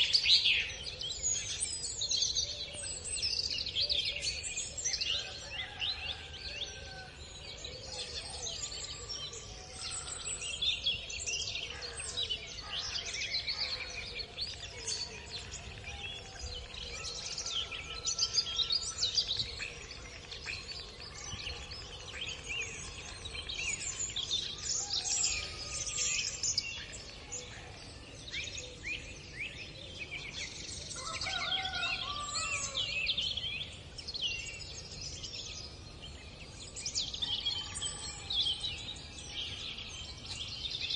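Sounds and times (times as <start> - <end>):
faint outdoor background: 0.0 - 40.9.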